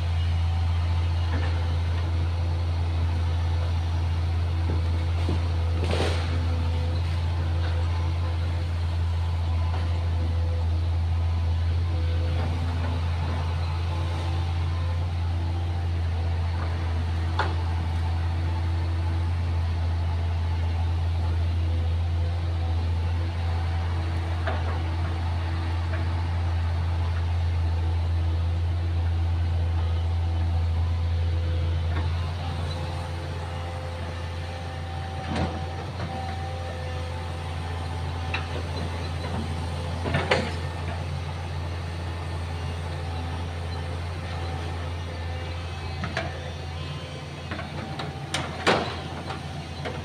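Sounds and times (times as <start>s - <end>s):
excavator diesel engine drone: 0.0s - 50.0s.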